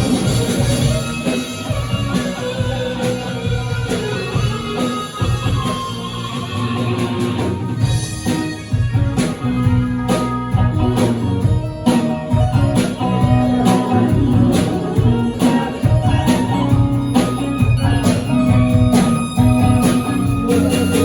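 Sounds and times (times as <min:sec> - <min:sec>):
drums: 0:00.0 - 0:21.0
guitar: 0:00.0 - 0:21.0
live band playing: 0:00.0 - 0:21.0.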